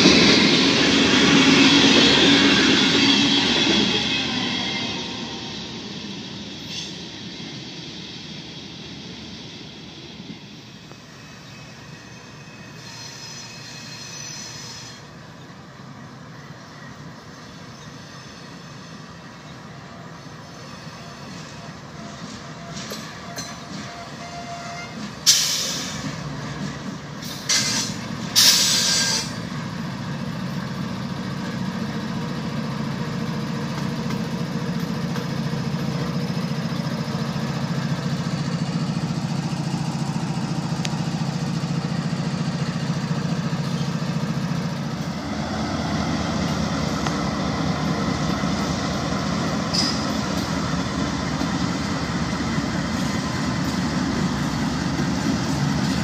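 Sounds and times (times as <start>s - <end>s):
train wheel noise: 0.0s - 15.2s, 17.0s - 56.0s.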